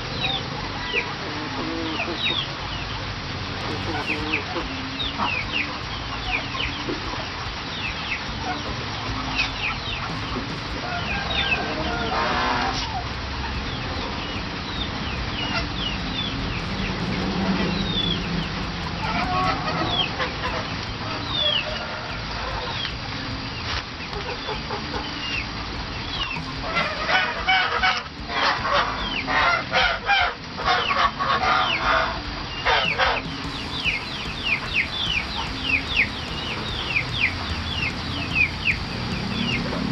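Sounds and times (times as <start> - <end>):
harsh duck calls: 0.0 - 23.1, 24.1 - 39.9
high falling chirps: 2.2 - 29.7, 32.4 - 39.9.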